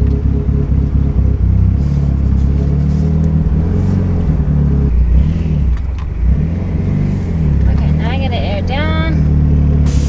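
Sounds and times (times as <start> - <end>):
car engine revving while driving: 0.0 - 10.0.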